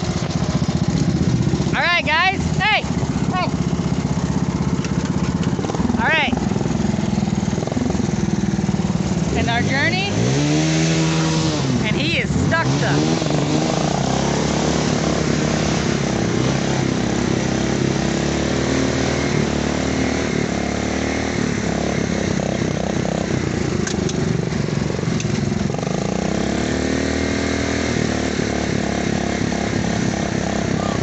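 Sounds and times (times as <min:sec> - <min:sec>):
riding lawn mower engine revving: 0:00.0 - 0:31.0.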